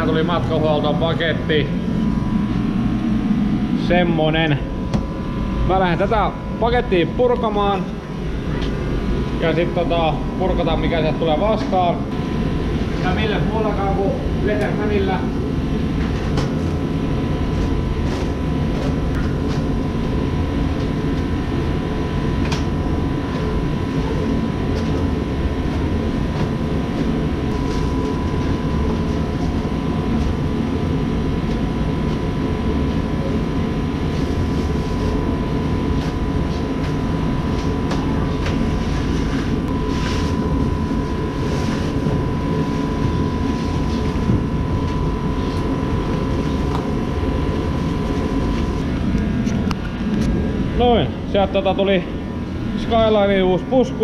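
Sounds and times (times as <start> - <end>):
blower fan rumbling: 0.0 - 54.0
faint steady whine: 0.0 - 54.0.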